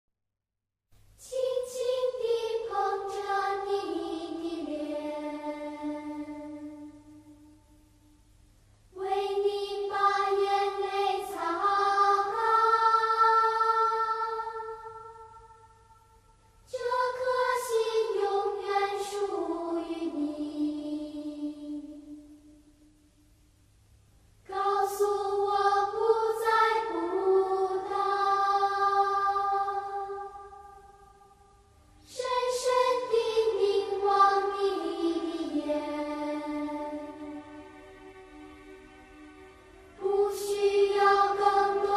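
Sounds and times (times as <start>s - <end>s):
choir singing long notes: 1.2s - 8.3s, 8.9s - 23.1s, 24.4s - 41.9s.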